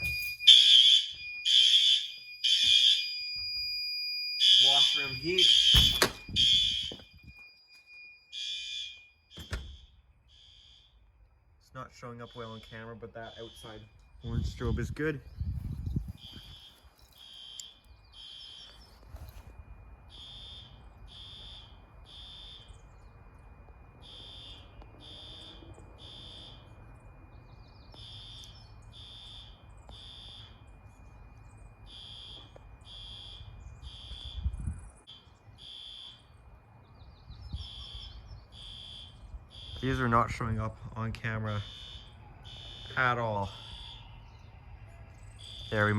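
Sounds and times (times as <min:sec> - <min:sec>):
fire alarm beeps: 0:00.0 - 0:45.9.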